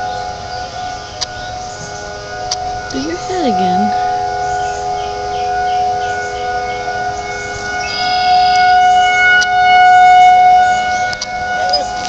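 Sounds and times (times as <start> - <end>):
high whine: 0.0 - 12.0
warning siren wailing: 0.0 - 12.0.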